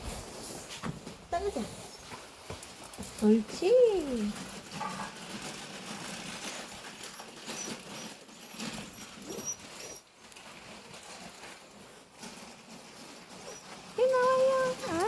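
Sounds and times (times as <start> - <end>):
dog paws pattering: 0.1 - 15.0.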